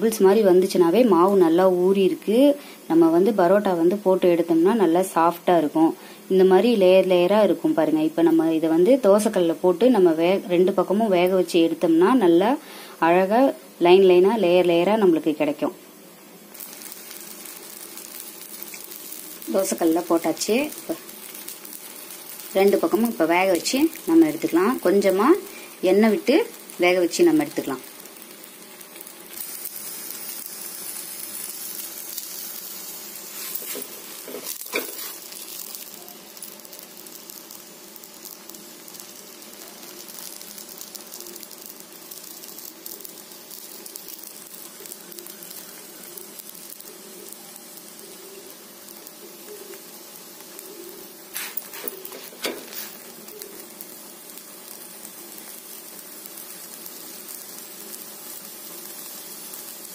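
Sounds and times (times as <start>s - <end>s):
flatbread sizzling on a griddle: 0.0s - 59.9s.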